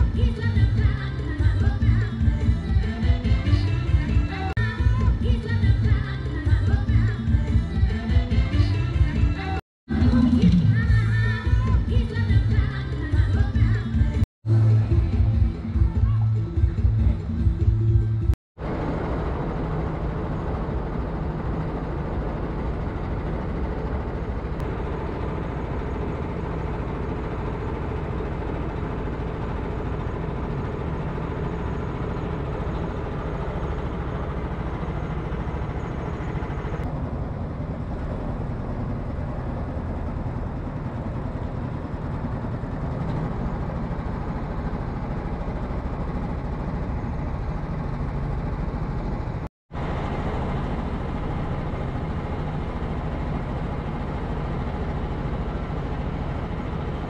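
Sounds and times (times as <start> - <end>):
motorcycle engine drone: 0.0 - 57.0.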